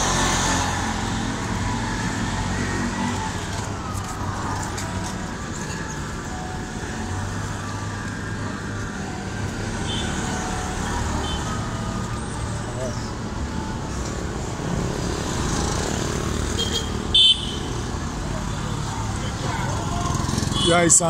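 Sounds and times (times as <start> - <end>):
cars passing: 0.0 - 21.0
motor tricycles passing: 0.0 - 21.0
road noise: 0.0 - 21.0.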